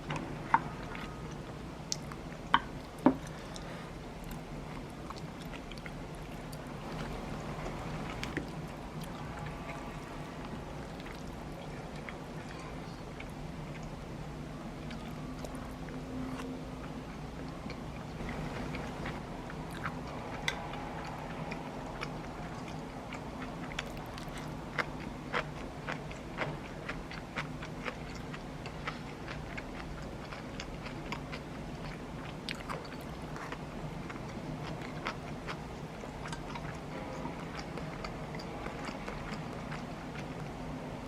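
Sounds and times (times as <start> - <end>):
person chewing: 0.0 - 14.0, 14.8 - 40.6
steady low hum: 0.0 - 41.0.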